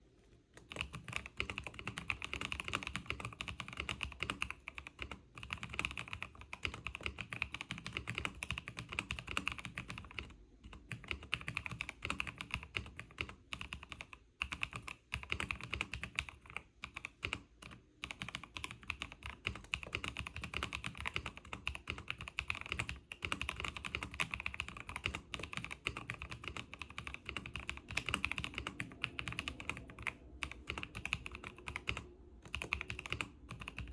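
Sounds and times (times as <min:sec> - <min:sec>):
fast mechanical keyboard typing: 0:00.6 - 0:33.9.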